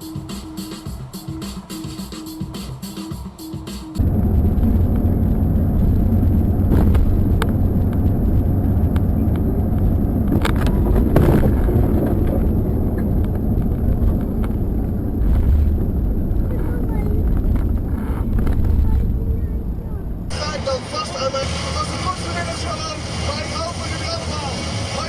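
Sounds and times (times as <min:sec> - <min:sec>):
vehicle rumble on the road: 0:04.0 - 0:25.0.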